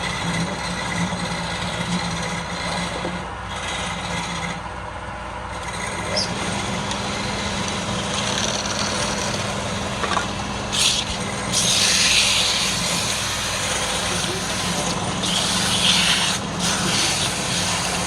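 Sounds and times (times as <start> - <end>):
turning tool scraping wood: 0.0 - 4.7, 5.5 - 18.0
wood lathe motor running: 0.0 - 4.8, 5.4 - 18.0.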